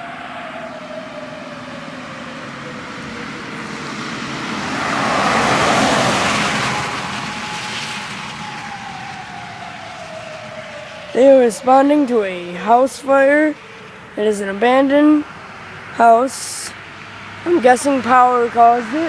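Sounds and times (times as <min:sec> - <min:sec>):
fire truck siren wailing: 0:00.0 - 0:19.0
vehicle passing close: 0:00.0 - 0:19.0.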